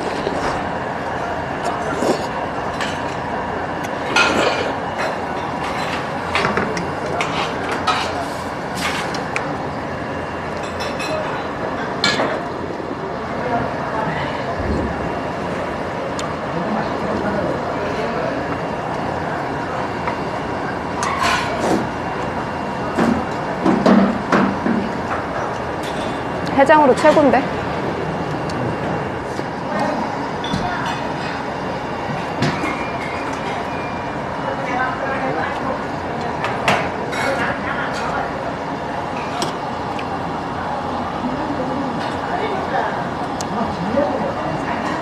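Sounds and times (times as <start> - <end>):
steady background hum: 0.0 - 45.0
steady background noise: 0.0 - 45.0.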